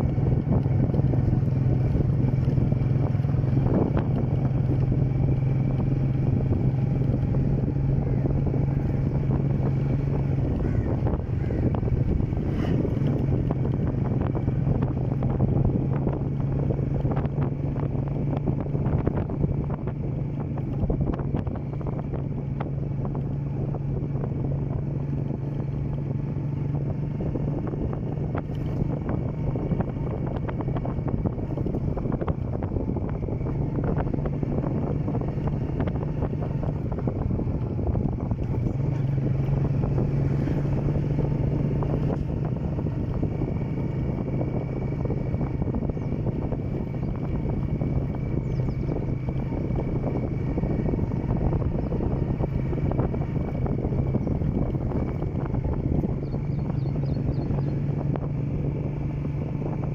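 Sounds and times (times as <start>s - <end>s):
motorcycle engine cruising: 0.0s - 59.9s
wind buffeting microphone: 0.0s - 59.9s.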